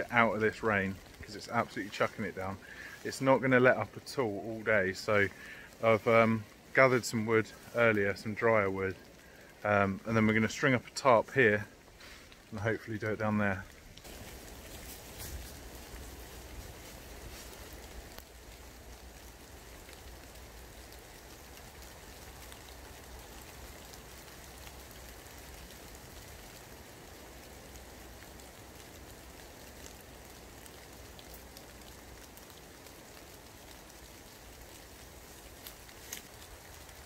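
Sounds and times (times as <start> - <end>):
heavy rain hissing: 0.0 - 37.0
raindrops ticking: 0.0 - 37.0.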